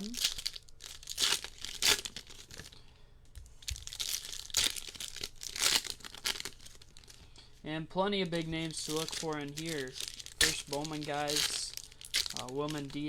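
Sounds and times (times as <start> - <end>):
cardboard and plastic tearing: 0.0 - 2.8, 3.6 - 7.2, 8.6 - 13.0.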